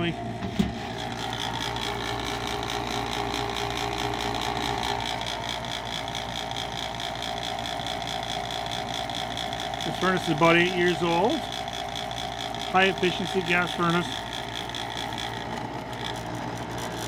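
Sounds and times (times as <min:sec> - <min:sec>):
fan motor whirring and whining: 0:00.0 - 0:17.0.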